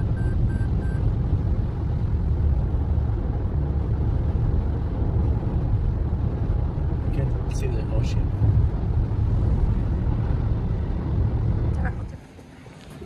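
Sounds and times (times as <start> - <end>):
car road rumble: 0.0 - 13.0.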